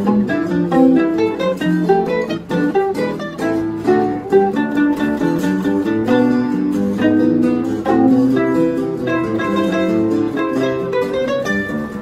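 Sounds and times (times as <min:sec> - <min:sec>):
guitar bass line: 0:00.0 - 0:12.0
plucked mandolin melody: 0:00.0 - 0:12.0.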